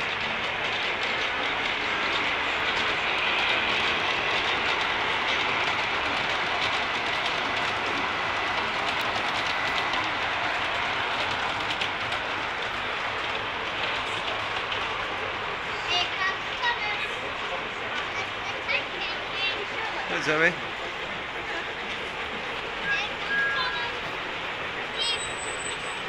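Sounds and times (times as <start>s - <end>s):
model train wheels clicking on rails: 0.0s - 26.0s.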